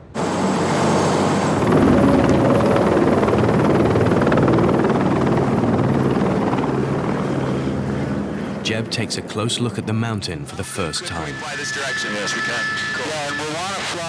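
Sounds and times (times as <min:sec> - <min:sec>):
helicopter rotor chop: 0:00.0 - 0:14.0.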